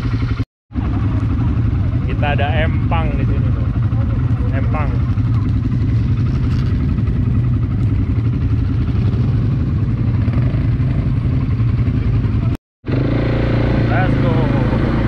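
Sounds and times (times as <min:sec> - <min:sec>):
atv engine droning: 0:00.0 - 0:15.0.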